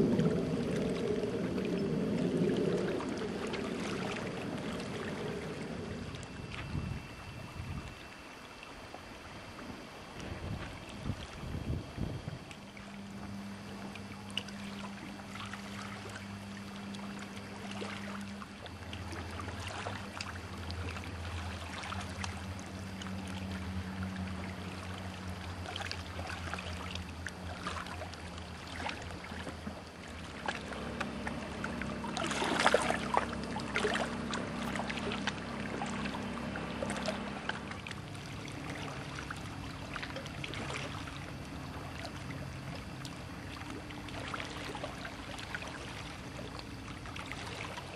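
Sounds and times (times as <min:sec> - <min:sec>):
steady low hum: 0:00.0 - 0:47.9
water splashing around boat: 0:00.0 - 0:47.9.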